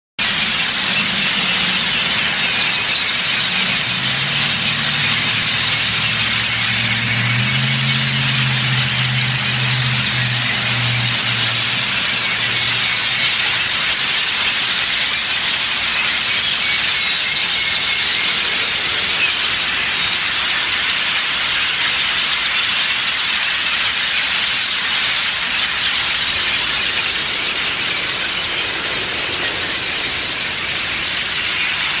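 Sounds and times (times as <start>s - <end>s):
flock of birds calling: 0.2s - 32.0s.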